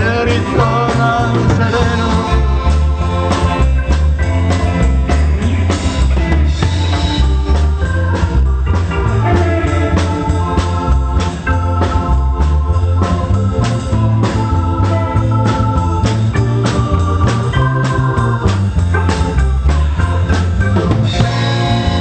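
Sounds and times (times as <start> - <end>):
bass guitar: 0.0 - 22.0
drum kit: 0.0 - 22.0
organ keyboard melody: 0.0 - 22.0.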